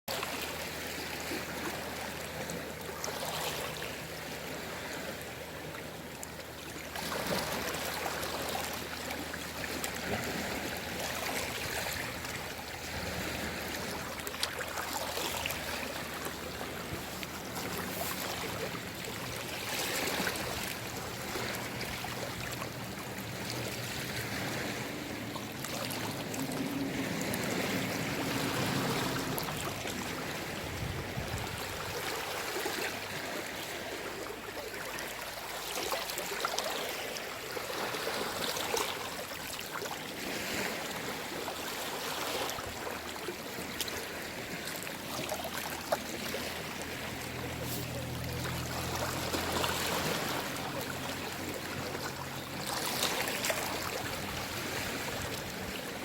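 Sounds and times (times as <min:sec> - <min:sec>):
calm sea waves washing ashore: 0:00.1 - 0:56.0.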